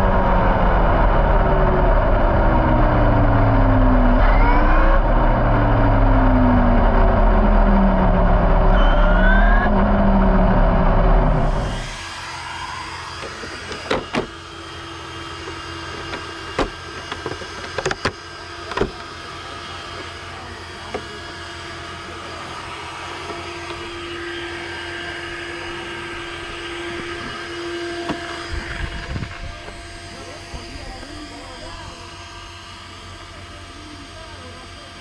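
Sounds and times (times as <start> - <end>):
small electric motor whine: 0.0 - 35.0.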